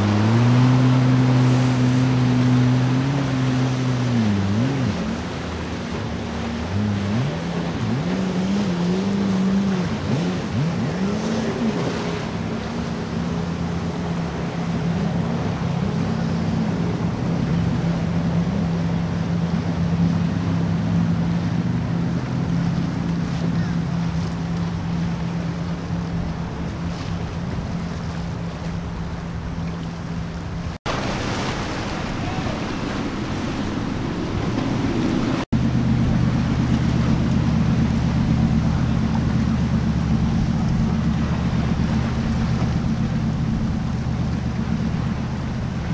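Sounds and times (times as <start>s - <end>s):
boat engines droning: 0.0s - 45.9s
water splashing and waves: 0.0s - 45.9s.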